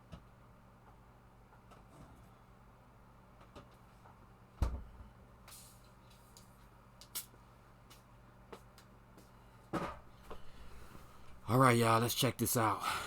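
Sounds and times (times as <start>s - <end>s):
mains hum: 0.0s - 13.0s.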